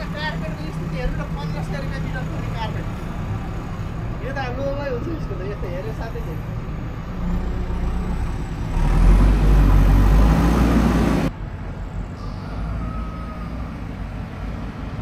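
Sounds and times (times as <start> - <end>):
loud vehicle rushing: 0.0 - 15.0
low road rumble: 0.0 - 15.0.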